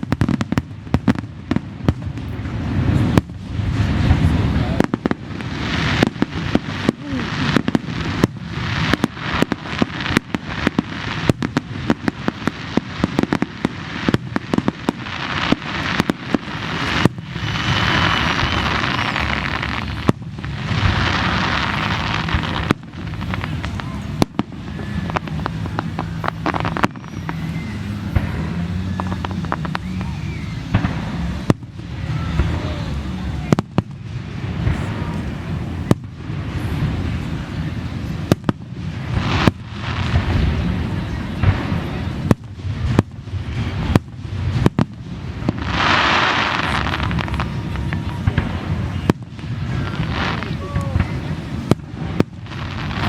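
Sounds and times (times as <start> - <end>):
continuous fireworks noise: 0.0 - 53.0
fireworks bangs: 0.0 - 53.0.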